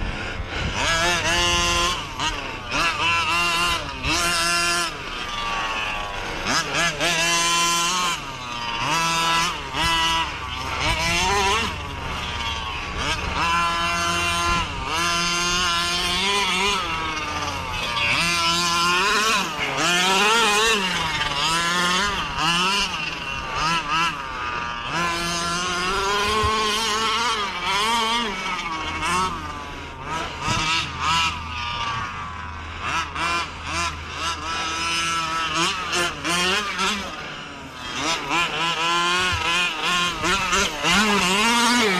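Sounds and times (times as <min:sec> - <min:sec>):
engine throttle blips: 0:00.0 - 0:41.9
small two-stroke engine revving: 0:00.0 - 0:41.9.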